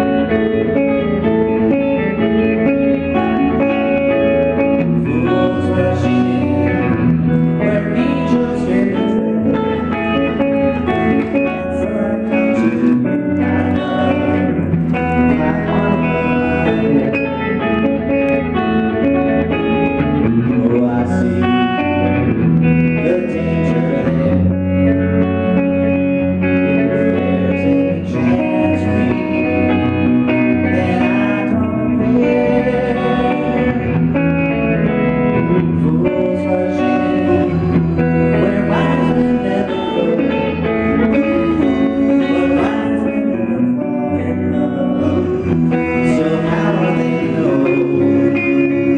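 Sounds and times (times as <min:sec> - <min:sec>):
man singing lead vocal: 0:00.0 - 0:48.9
pop-rock band playing: 0:00.0 - 0:48.9.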